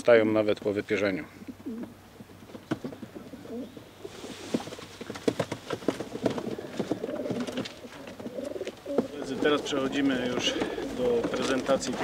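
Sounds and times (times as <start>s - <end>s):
pigeons cooing: 1.2s - 12.0s.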